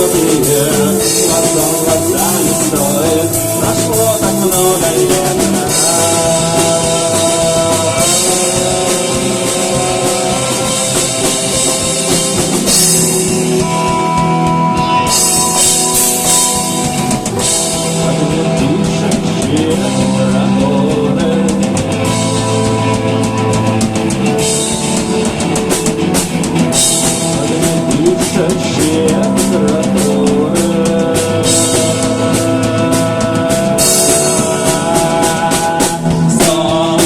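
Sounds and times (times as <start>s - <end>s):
instrumental rock band: 0.0s - 37.0s.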